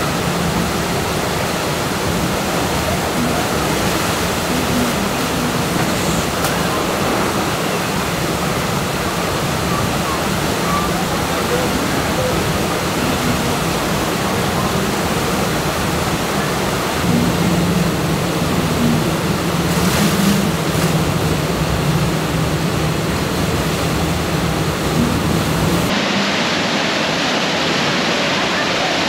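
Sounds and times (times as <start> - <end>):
low steady hum: 0.0 - 28.4
rushing white water: 0.0 - 29.0.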